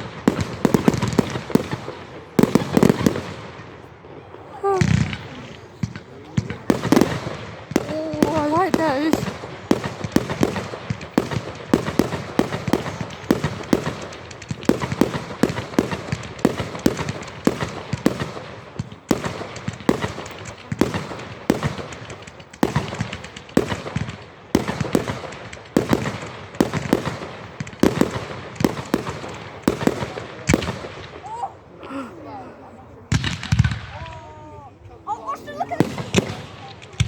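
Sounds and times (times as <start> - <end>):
fireworks bangs: 0.0 - 31.4, 33.1 - 34.6, 35.5 - 37.0
fireworks crackling: 0.0 - 31.4, 33.1 - 34.6, 35.3 - 37.0.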